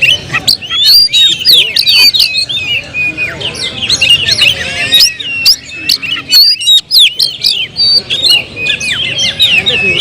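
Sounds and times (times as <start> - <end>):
magpie-robins singing: 0.0 - 10.0.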